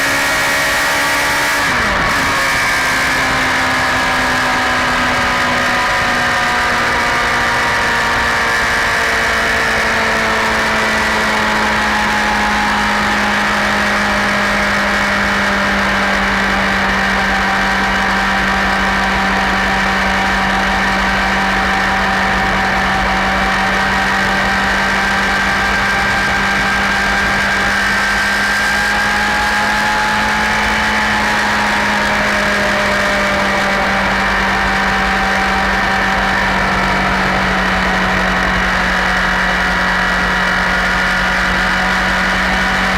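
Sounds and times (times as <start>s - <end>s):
motorcycle engine droning: 0.0s - 42.9s.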